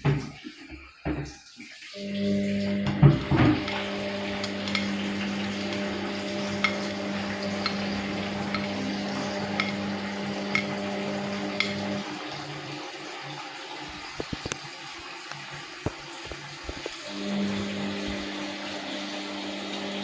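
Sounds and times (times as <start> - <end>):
washing machine hum: 0.0 - 20.0
water swishing and splashing: 0.0 - 20.0.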